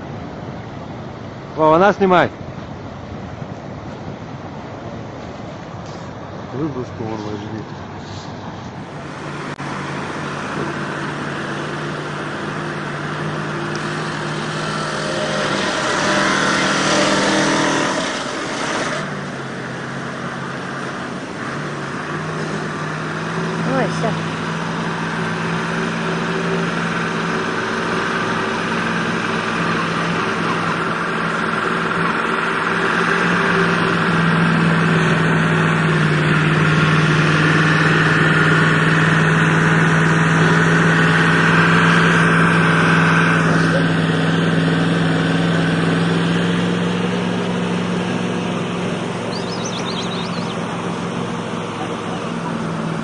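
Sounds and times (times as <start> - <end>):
truck engine running under load: 0.0 - 53.0.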